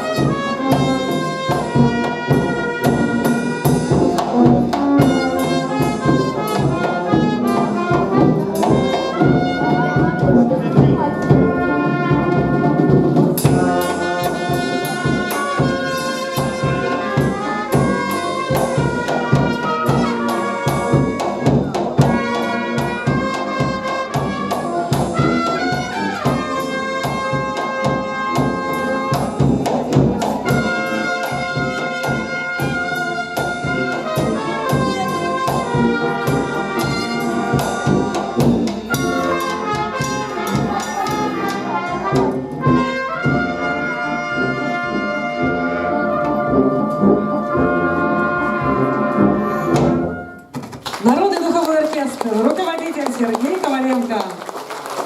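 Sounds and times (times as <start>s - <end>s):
brass horns playing: 0.0s - 50.5s.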